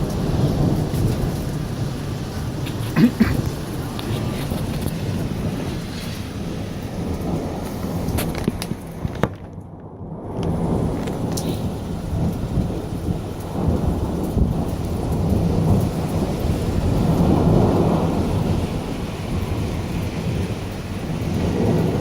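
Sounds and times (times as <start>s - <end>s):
rain falling: 0.0s - 22.0s
rolling thunder: 0.0s - 22.0s.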